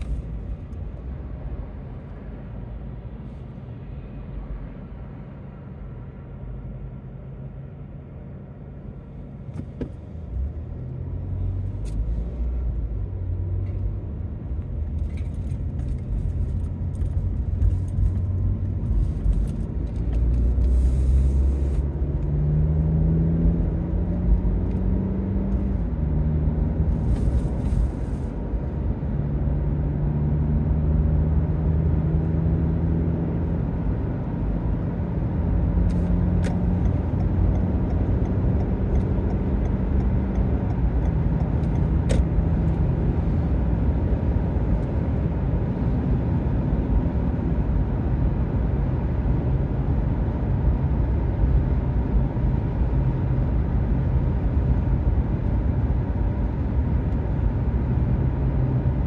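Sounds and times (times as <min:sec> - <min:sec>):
road rumble inside car: 0:00.0 - 0:59.0
car engine accelerating: 0:10.0 - 0:59.0.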